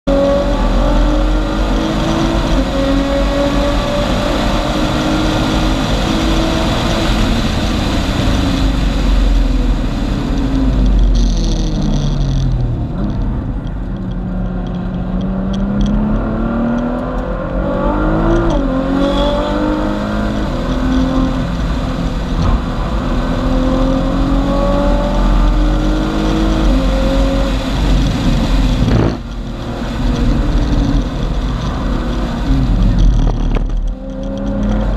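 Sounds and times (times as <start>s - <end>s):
car engine revving through gears: 0.0s - 34.9s
wind noise: 0.1s - 34.9s.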